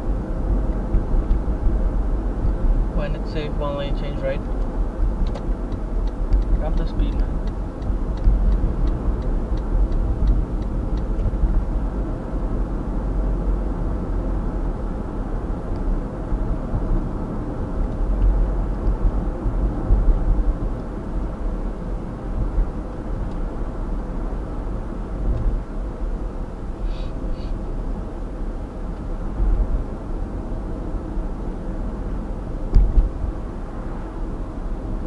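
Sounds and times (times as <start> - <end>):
car road noise: 0.0 - 35.0.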